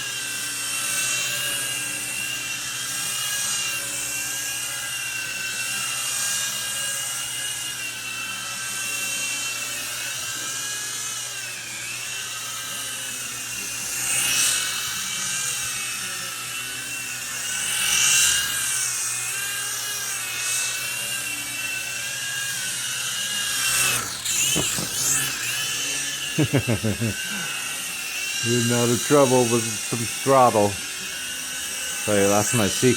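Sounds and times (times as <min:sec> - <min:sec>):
toy helicopter rotors whining: 0:00.0 - 0:32.9.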